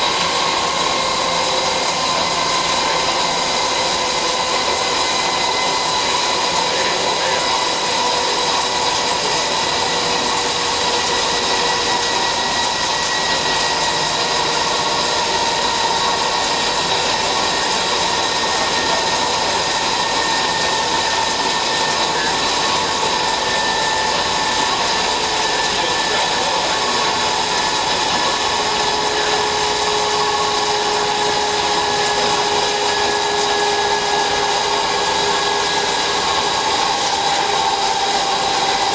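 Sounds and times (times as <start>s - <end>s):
lathe cutting noise: 0.0s - 38.9s.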